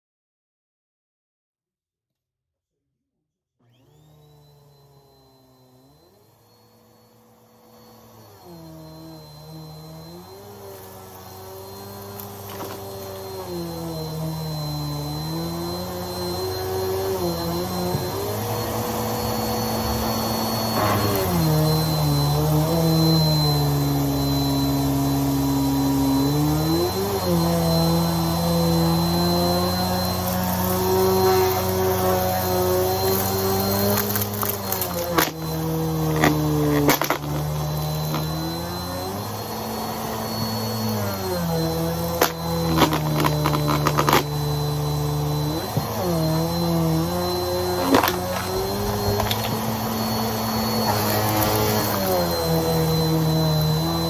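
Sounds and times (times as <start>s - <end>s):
vacuum cleaner running: 3.6s - 54.0s.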